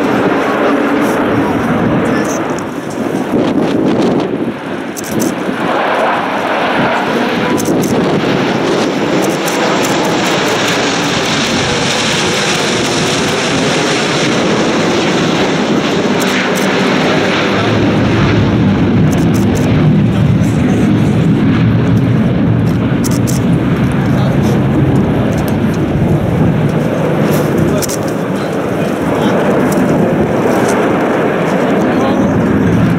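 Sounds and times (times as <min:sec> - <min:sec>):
jet fighters flying over: 0:00.0 - 0:32.9.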